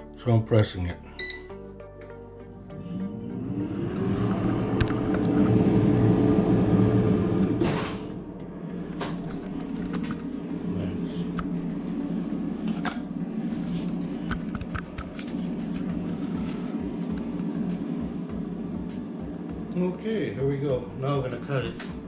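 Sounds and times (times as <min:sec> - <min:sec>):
air fryer fan humming: 0:02.2 - 0:22.0.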